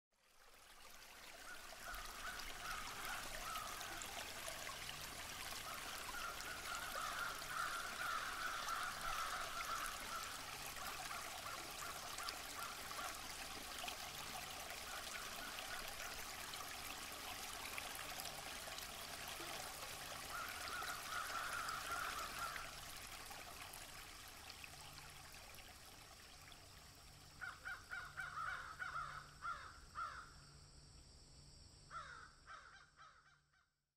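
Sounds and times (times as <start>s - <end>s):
rushing river water: 0.2s - 28.4s.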